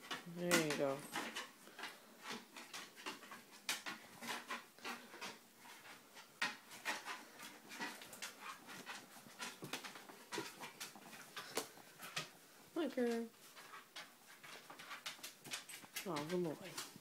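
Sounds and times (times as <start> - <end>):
dog claws clicking on stairs: 0.0 - 17.0.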